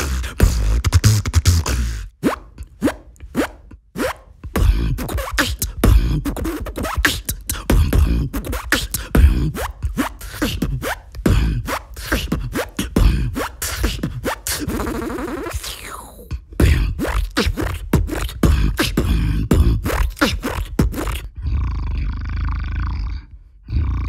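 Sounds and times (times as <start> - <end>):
person beatboxing: 0.0 - 24.0.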